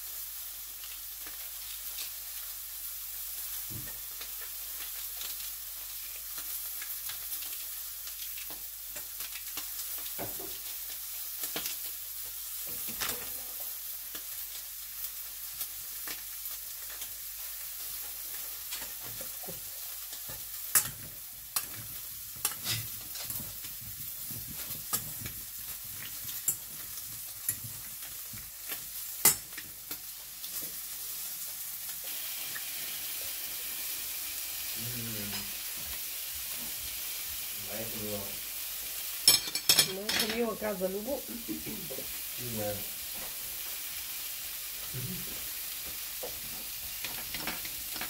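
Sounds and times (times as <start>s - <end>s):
meat sizzling in a pan: 0.0s - 48.0s.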